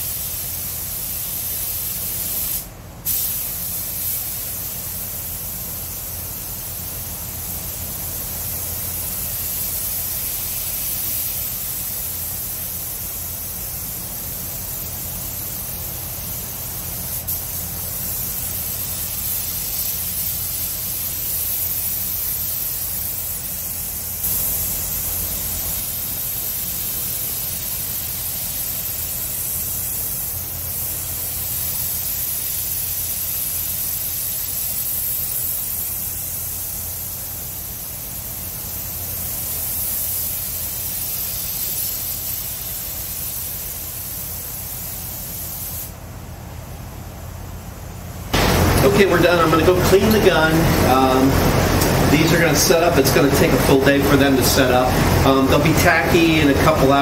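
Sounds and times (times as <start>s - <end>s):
spray gun hissing: 0.0s - 46.0s, 48.3s - 57.0s.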